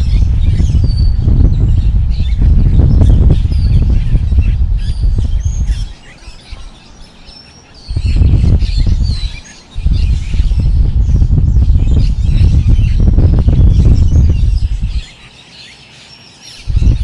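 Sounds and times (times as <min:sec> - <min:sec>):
strong wind gusting: 0:00.0 - 0:15.3, 0:16.6 - 0:17.0
small birds chirping: 0:00.0 - 0:17.0.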